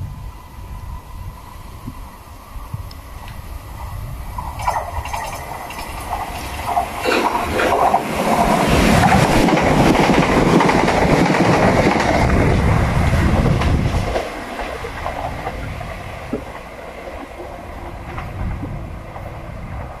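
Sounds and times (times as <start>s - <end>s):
train wheel and rail noise: 0.0s - 20.0s
sharp clicks of train wheels: 2.8s - 20.0s.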